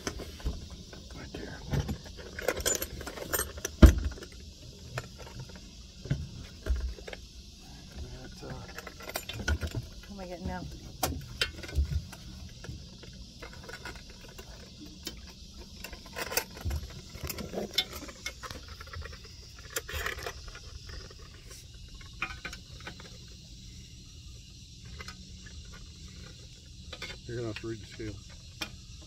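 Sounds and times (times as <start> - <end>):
fishing gear clinking and rattling: 0.0 - 23.4
steady low hum: 0.0 - 29.0.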